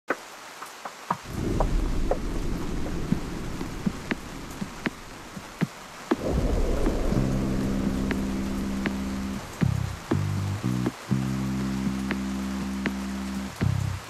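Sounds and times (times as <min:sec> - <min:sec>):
raindrops ticking on surface: 0:00.1 - 0:14.0
steady rain falling: 0:00.1 - 0:14.0
low rumble: 0:01.3 - 0:13.1.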